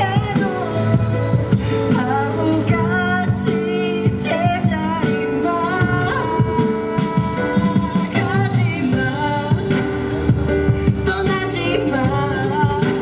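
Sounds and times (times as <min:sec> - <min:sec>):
man singing into a microphone: 0:00.0 - 0:10.1, 0:10.8 - 0:13.0
instrumental accompaniment: 0:00.0 - 0:13.0.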